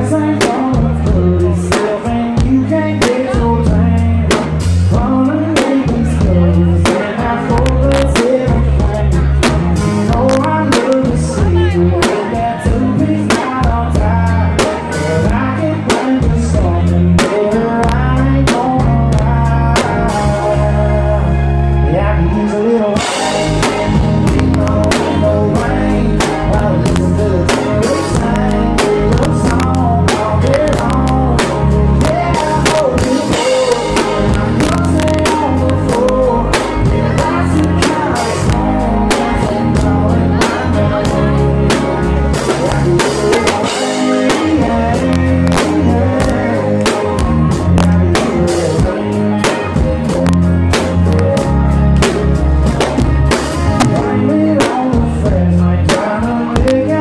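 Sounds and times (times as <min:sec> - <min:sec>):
drum kit beat: 0:00.0 - 0:21.0, 0:23.0 - 0:57.0
bass guitar: 0:00.0 - 0:57.0
man singing: 0:00.0 - 0:57.0.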